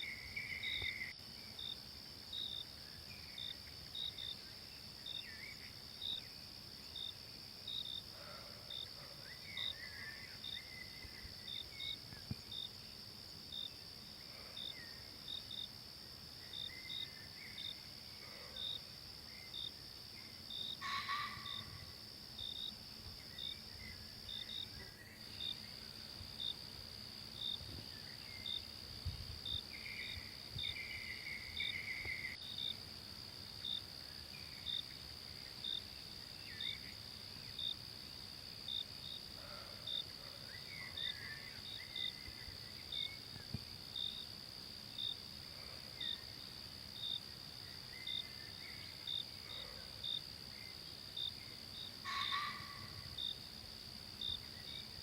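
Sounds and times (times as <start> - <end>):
crickets chirping: 0.0 - 55.0
insects buzzing: 0.0 - 55.0.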